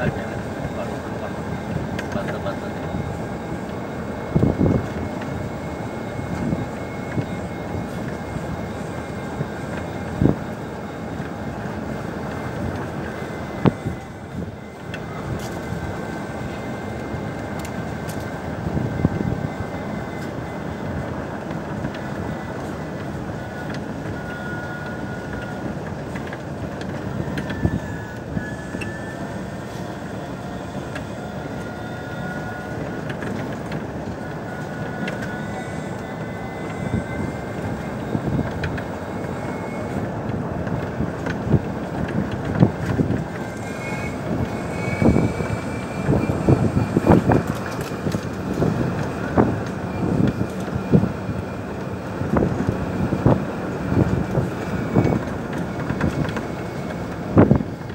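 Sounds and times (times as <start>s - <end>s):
golf cart tyres rumbling: 0.0s - 57.9s.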